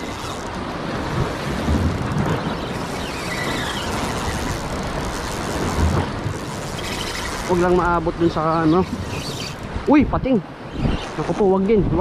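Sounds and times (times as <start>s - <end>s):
surf rushing: 0.0s - 12.0s
wind: 0.0s - 12.0s.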